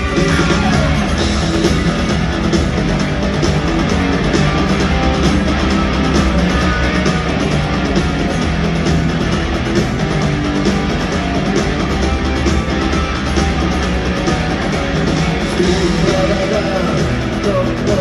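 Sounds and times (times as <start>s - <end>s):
instrumental rock music: 0.0s - 18.0s.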